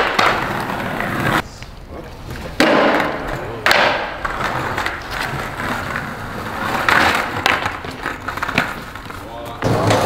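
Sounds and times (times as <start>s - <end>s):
skateboard hitting ground: 0.0s - 1.4s, 2.2s - 10.0s
skateboard wheels rolling on asphalt: 0.0s - 10.0s.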